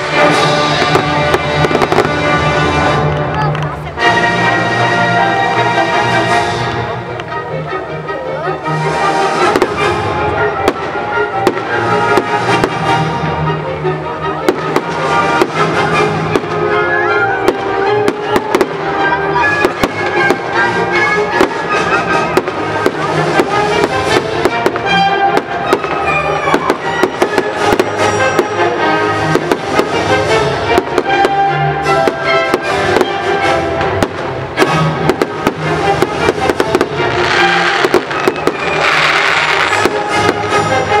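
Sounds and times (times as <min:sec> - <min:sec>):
fireworks bangs: 0:00.0 - 0:03.9, 0:09.3 - 0:13.2, 0:14.4 - 0:41.0
loud music: 0:00.0 - 0:41.0.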